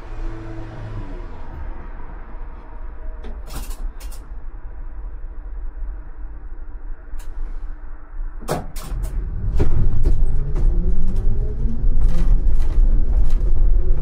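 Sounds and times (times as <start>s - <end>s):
tram low rumble: 0.0s - 14.0s.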